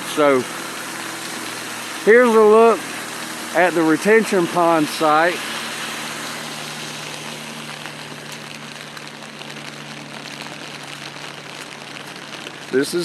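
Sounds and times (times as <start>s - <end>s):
rain hissing and pattering: 0.0s - 13.0s
vehicle engine idling: 0.0s - 13.0s.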